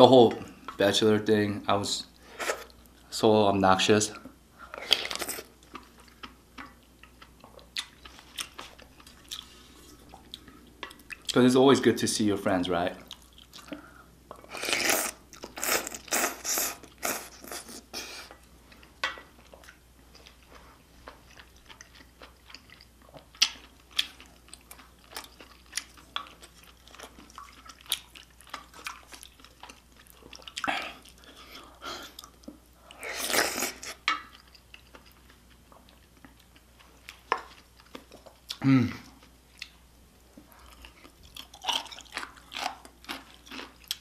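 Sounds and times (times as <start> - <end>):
person chewing and crunching: 4.7 - 11.4, 13.0 - 44.0.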